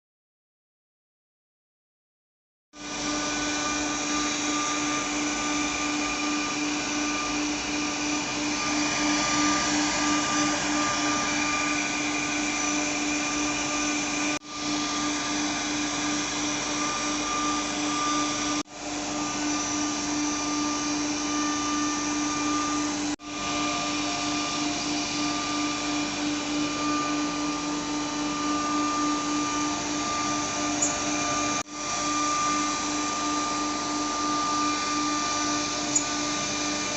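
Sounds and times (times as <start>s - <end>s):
router spindle whine: 2.8s - 36.9s.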